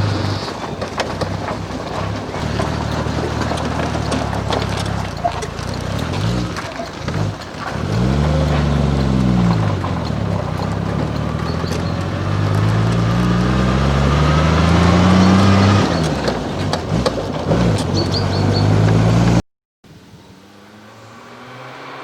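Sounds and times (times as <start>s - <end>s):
car engine accelerating: 0.0s - 19.4s, 20.2s - 22.0s.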